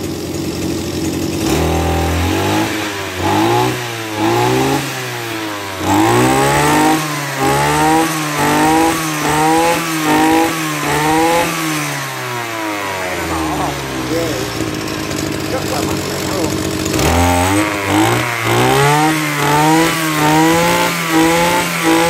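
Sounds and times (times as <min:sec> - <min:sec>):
brush cutter engine revving: 0:00.0 - 0:22.0.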